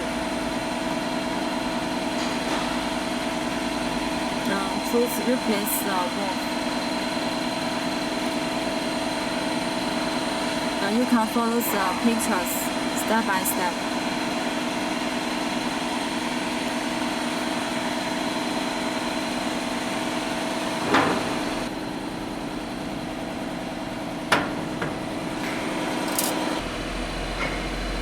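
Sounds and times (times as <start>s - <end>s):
machine hum with steady tones: 0.0s - 28.0s.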